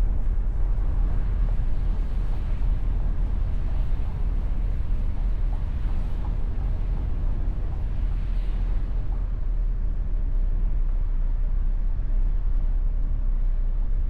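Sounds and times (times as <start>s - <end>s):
car engine rumble: 0.0s - 14.0s
wind buffeting microphone: 0.0s - 14.0s.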